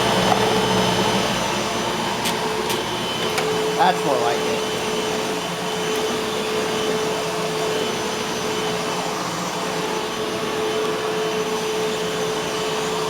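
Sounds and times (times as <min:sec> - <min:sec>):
vacuum cleaner motor whine: 0:00.0 - 0:13.0.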